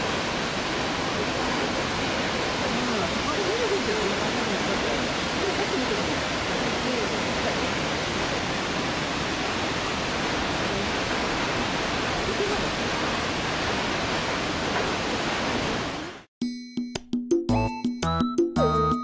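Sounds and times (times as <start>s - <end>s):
waterfall rushing: 0.0s - 16.3s.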